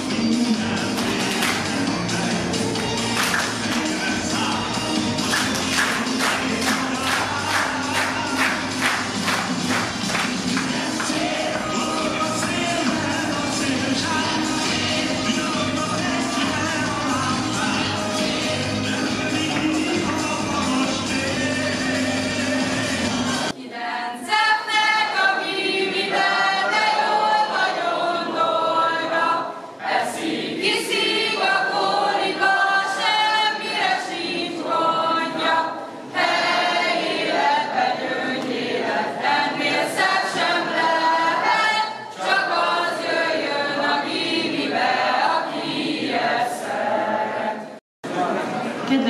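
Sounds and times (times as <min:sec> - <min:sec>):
youth choir singing a cappella: 0:00.0 - 0:47.8.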